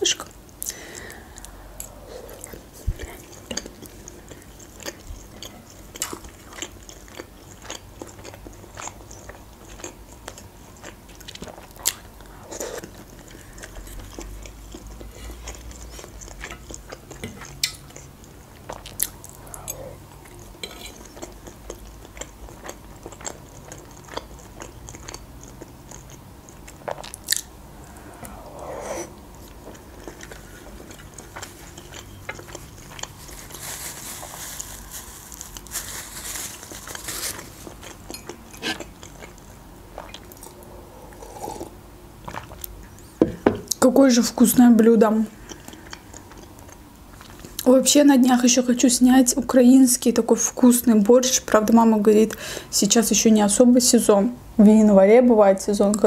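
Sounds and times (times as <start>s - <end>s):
close-up chewing: 0.4s - 28.7s, 29.3s - 43.9s, 45.3s - 47.7s.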